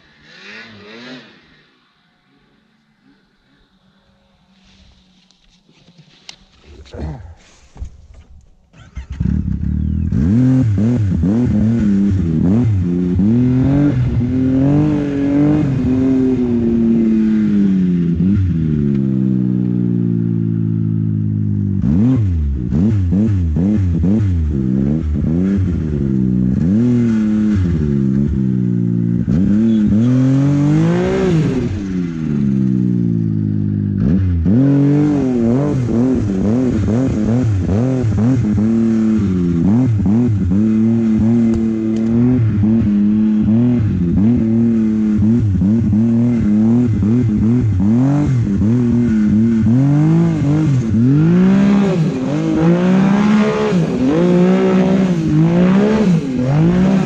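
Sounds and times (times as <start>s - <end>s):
snowmobile engine revving: 0.0s - 7.7s, 8.7s - 57.0s.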